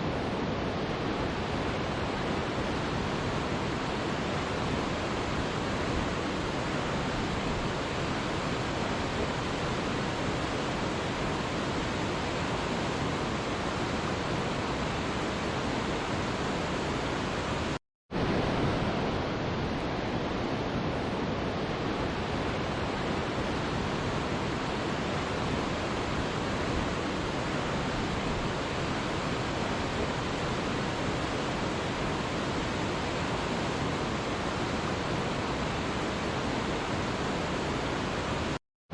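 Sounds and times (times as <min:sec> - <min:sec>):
waterfall rushing: 0:00.0 - 0:38.6.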